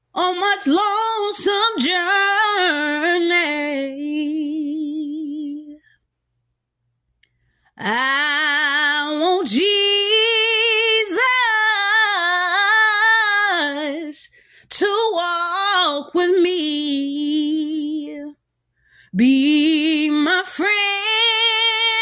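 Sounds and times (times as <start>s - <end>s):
woman singing gospel melody: 0.2s - 5.8s, 7.8s - 18.4s, 19.1s - 22.0s.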